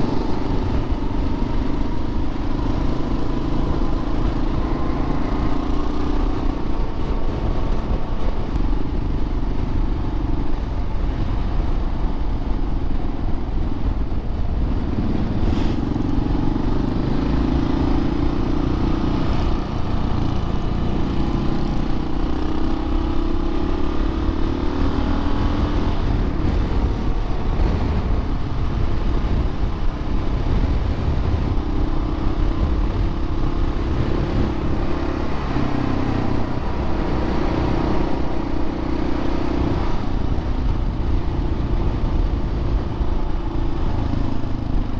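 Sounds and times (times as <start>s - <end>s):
motorcycle engine rumbling: 0.0s - 44.9s.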